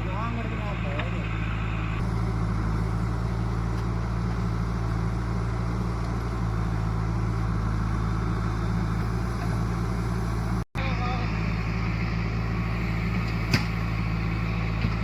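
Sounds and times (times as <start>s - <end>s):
large diesel engine running: 0.0s - 15.0s.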